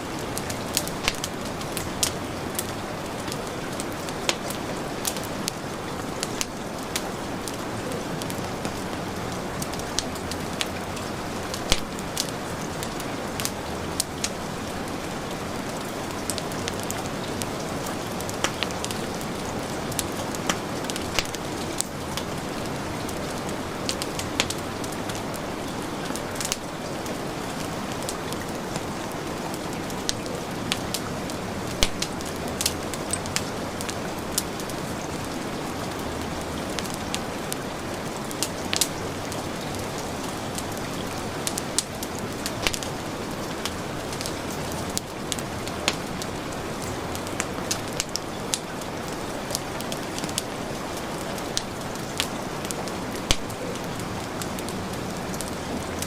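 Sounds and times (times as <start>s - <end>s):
heavy rain: 0.0s - 56.0s
wood fire crackling: 0.0s - 56.0s.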